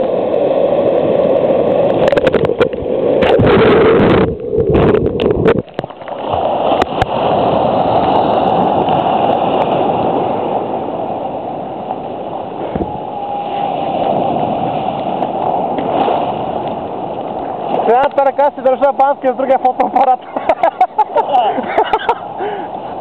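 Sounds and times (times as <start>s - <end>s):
surf waves breaking: 0.0s - 23.0s
water splashing against camera: 0.9s - 10.2s, 11.8s - 22.0s.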